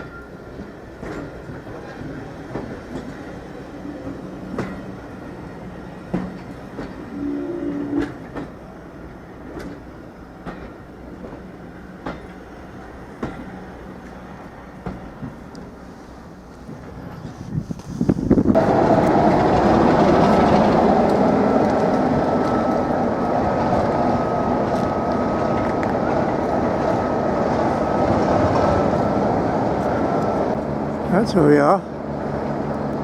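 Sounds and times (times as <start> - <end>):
train rolling with low rumble: 0.0 - 33.0.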